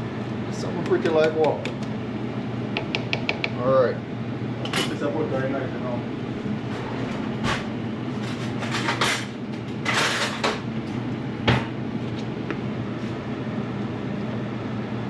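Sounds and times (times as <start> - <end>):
low appliance hum: 0.0 - 15.0.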